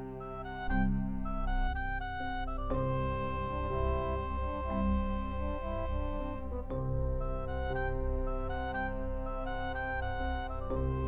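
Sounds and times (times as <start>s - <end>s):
music of slow held chords: 0.0s - 11.0s.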